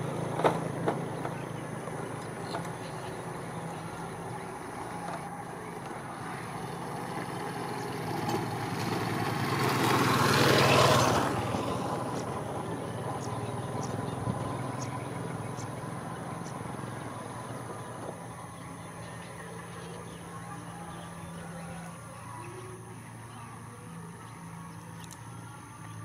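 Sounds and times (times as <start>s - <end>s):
small motorcycle passing: 0.0s - 26.0s.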